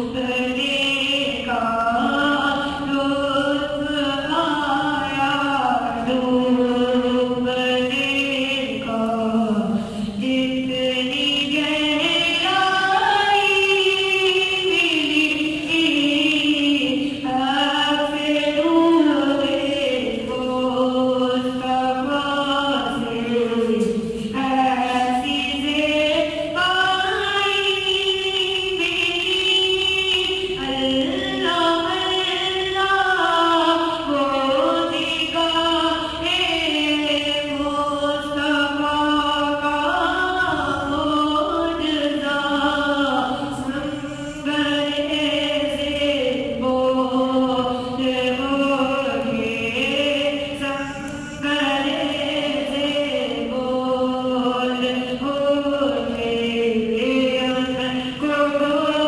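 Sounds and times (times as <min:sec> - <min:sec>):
boy chanting devotional poem: 0:00.0 - 0:59.0.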